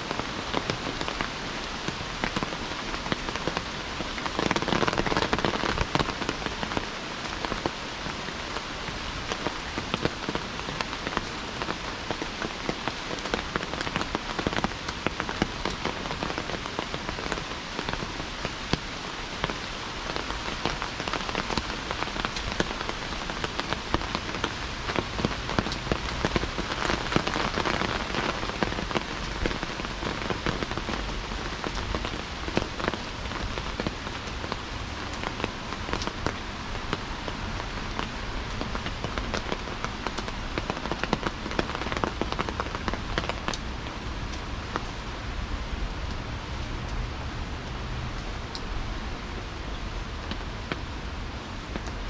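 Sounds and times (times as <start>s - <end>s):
sharp raindrop hits: 0.0s - 45.0s
heavy rain: 0.0s - 52.0s.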